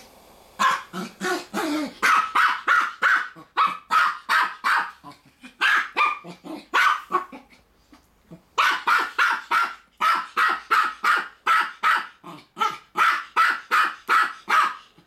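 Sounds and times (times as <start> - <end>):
small dog barking rapidly: 0.6 - 7.5, 8.6 - 15.0.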